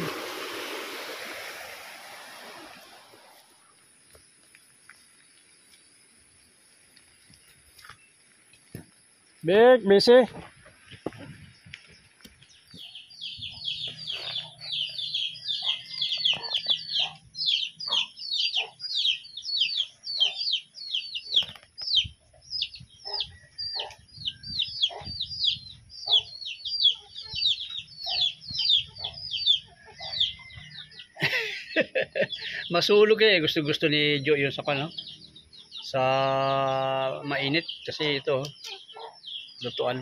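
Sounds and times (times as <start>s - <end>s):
bird chirping: 4.9s - 40.0s.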